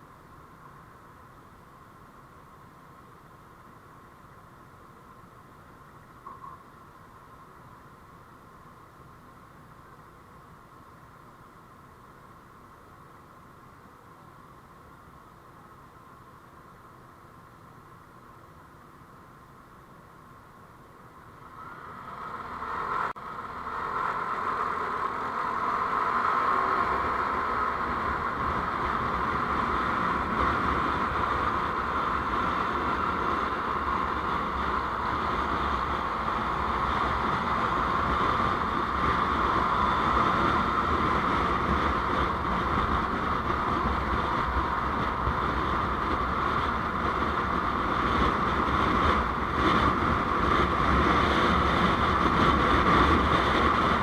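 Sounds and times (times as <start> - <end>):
road noise from moving vehicle: 0.0 - 54.0
wind noise: 0.0 - 54.0.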